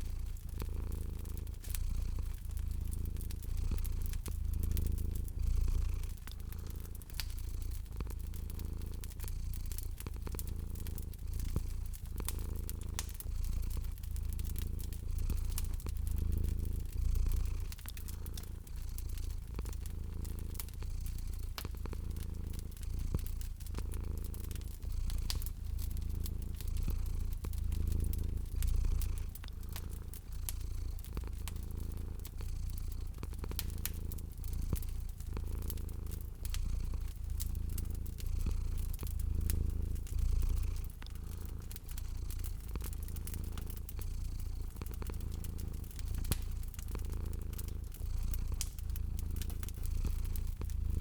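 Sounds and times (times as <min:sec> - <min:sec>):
cat purring: 0:00.0 - 0:51.0
wood fire crackling and popping: 0:00.0 - 0:51.0.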